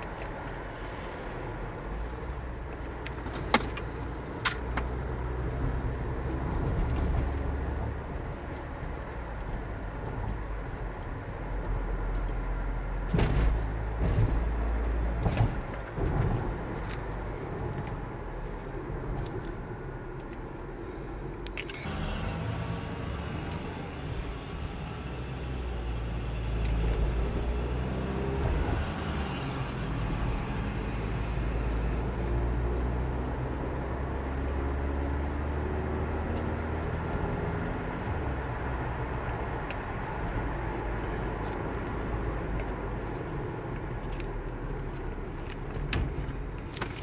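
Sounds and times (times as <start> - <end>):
car engine low drone: 0.0 - 47.0.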